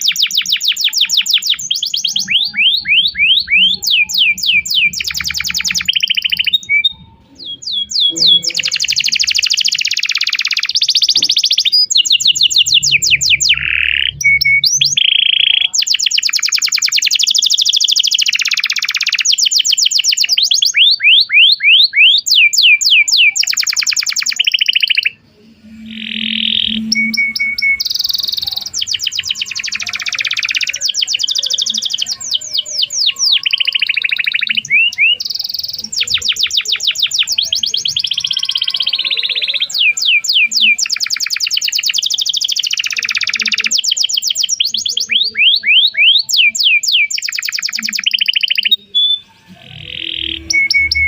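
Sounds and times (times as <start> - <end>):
canary singing trills: 0.0 - 51.0.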